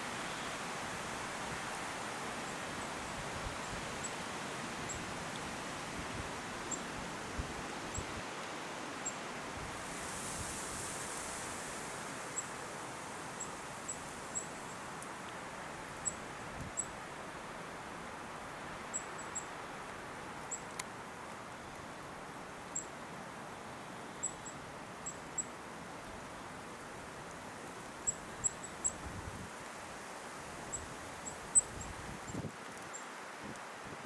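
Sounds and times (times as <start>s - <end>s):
wind rustling through leaves: 0.0s - 34.0s.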